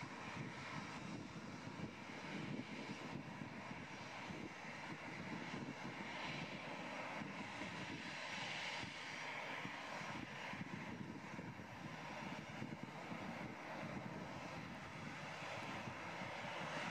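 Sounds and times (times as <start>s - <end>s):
jet engines at takeoff thrust: 0.0s - 16.9s.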